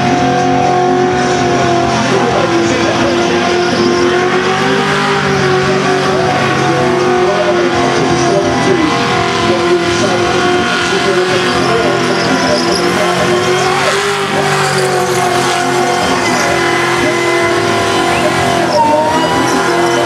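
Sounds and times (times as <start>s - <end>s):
car engine at high revs: 0.0s - 20.0s
tyres squealing: 1.9s - 20.0s.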